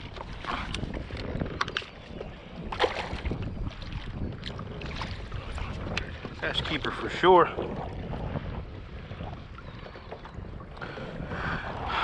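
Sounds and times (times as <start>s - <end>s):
water lapping against boat: 0.0s - 12.0s
wind noise on microphone: 0.0s - 12.0s.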